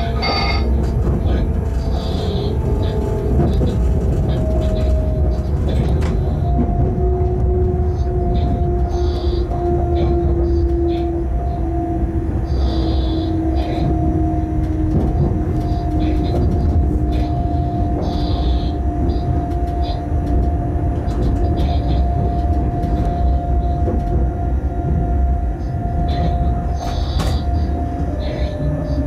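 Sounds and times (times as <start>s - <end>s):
freight train rumbling: 0.0s - 29.0s.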